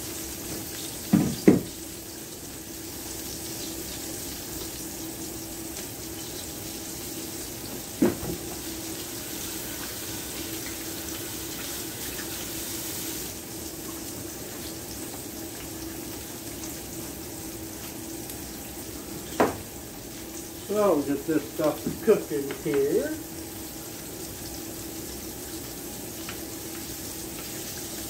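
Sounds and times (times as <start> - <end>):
squash frying in oil: 0.0 - 28.0.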